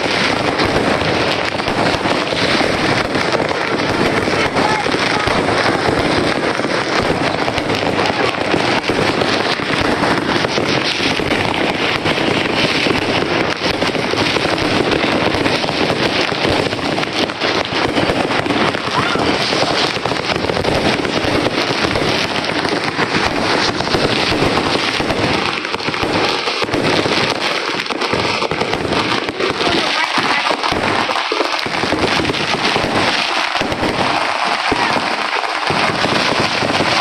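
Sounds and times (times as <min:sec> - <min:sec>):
fireworks and firecrackers: 0:00.0 - 0:37.0.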